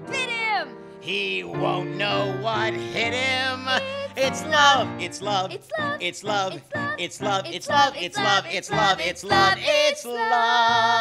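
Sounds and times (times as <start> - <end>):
man and girl singing duet: 1.1 - 11.0.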